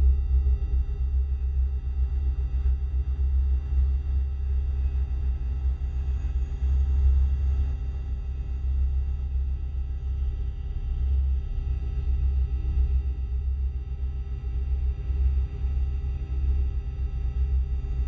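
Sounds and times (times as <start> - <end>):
deep low hum: 0.0 - 18.0.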